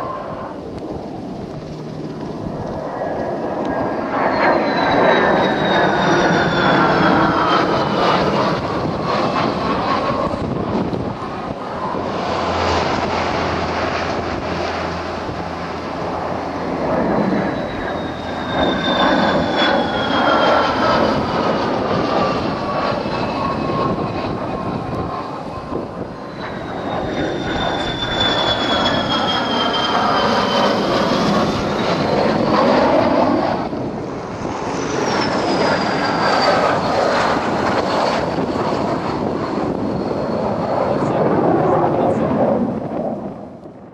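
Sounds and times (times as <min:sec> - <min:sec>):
jet engine rumble and whine: 0:00.0 - 0:43.9.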